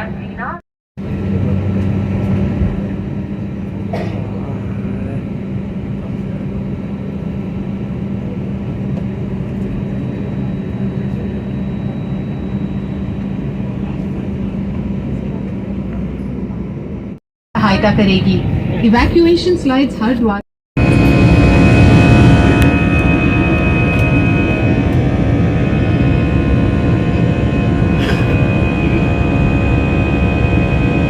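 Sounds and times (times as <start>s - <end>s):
aircraft engine drone: 0.0s - 31.0s.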